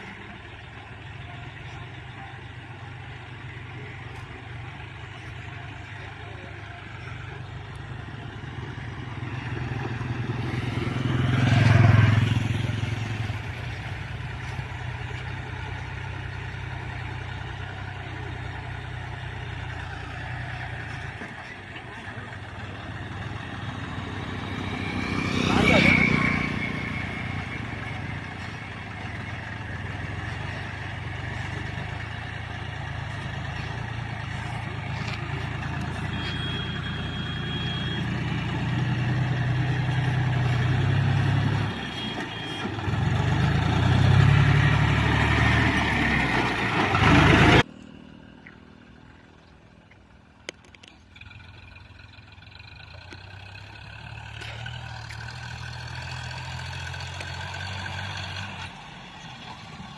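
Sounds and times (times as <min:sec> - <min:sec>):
tractor diesel engine labouring: 0:00.0 - 0:59.9.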